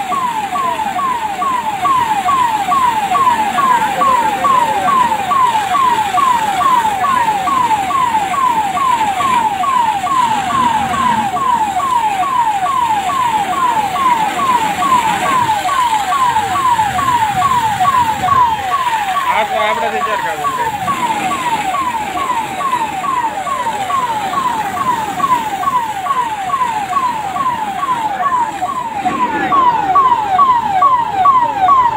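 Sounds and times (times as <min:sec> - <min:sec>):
electronic siren yelping: 0:00.0 - 0:31.9
water jet spraying: 0:00.0 - 0:31.9.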